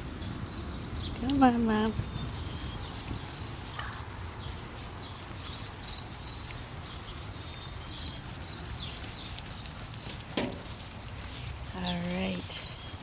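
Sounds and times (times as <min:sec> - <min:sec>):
footsteps and paws on ground: 0:00.0 - 0:13.0.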